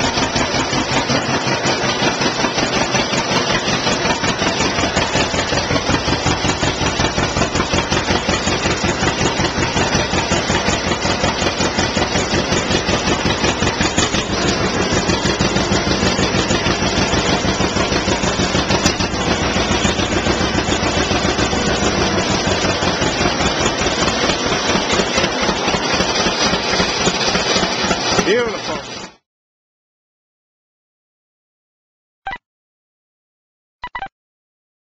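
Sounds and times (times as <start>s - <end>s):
tractor engine popping exhaust: 0.0s - 29.1s.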